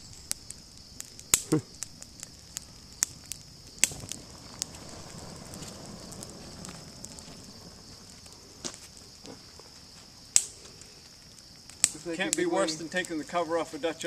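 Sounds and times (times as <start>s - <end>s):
sharp pops: 0.0s - 9.5s, 10.3s - 12.8s
small fire crackling: 0.0s - 14.0s.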